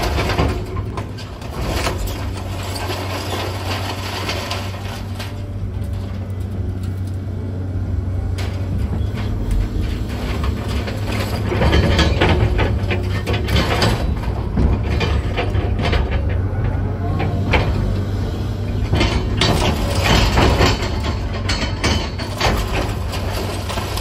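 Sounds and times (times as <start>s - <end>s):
demolition debris clattering: 0.0s - 24.0s
heavy diesel equipment running: 0.0s - 24.0s.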